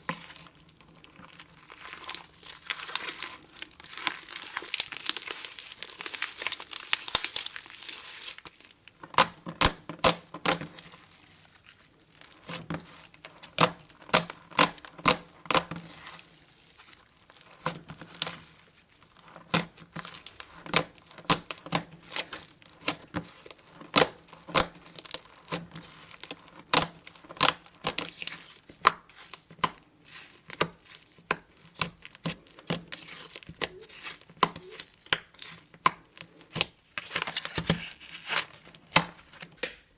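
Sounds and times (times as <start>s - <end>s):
slime crinkling: 0.0s - 39.6s.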